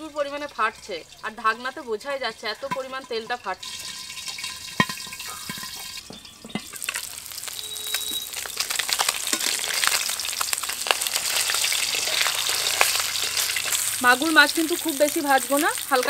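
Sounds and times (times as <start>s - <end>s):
hot oil crackling and spattering: 0.0s - 16.0s.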